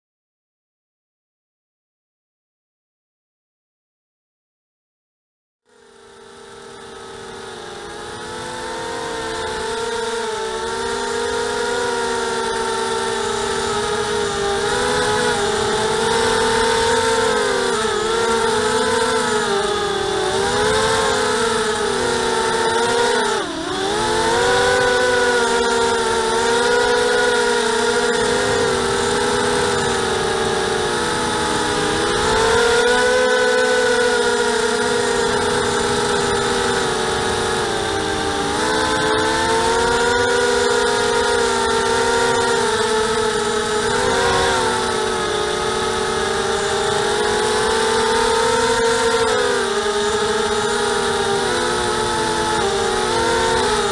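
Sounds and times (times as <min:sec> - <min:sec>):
quadcopter motors whining: 0:05.7 - 0:53.9.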